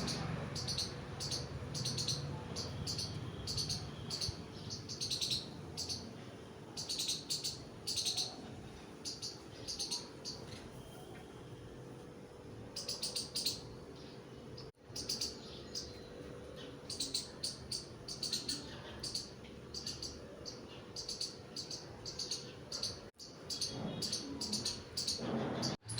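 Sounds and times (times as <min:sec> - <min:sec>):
birds chirping: 0:00.0 - 0:11.6, 0:12.2 - 0:25.9.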